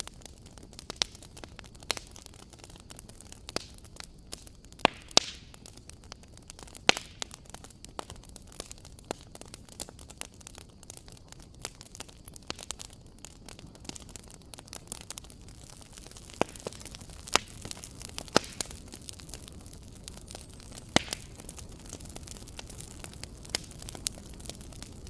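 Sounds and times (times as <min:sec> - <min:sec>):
faint fire hiss: 0:00.0 - 0:25.0
fire crackling and popping: 0:00.0 - 0:25.0.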